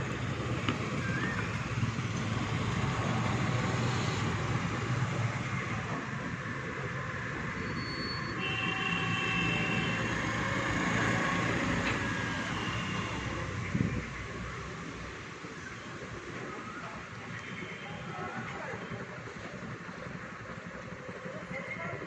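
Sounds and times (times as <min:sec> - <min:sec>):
passing vehicles rumbling: 0:00.0 - 0:22.0.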